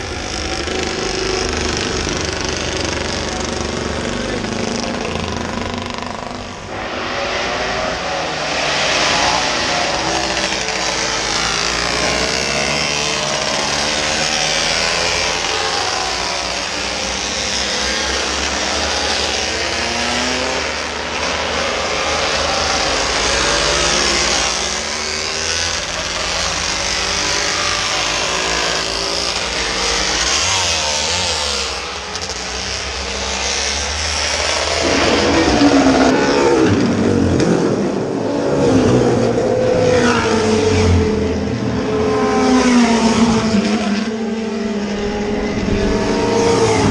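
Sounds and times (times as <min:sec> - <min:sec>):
racing motorcycles revving past: 0:00.0 - 0:46.9.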